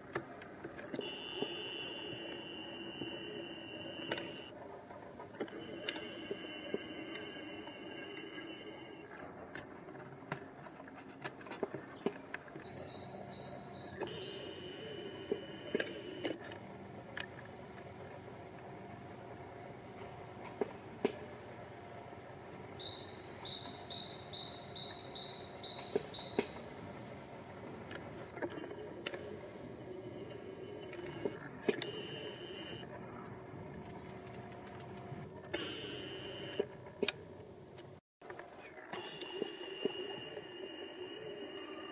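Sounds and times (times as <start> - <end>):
insects trilling: 0.0 - 38.0, 38.6 - 41.9.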